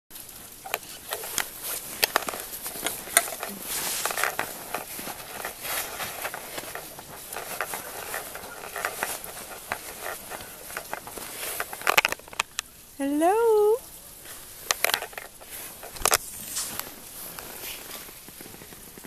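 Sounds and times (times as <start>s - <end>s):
crunching and scraping of snow: 0.2s - 12.5s, 14.1s - 19.0s
sharp clicks and cracks: 0.2s - 12.7s, 14.2s - 19.0s.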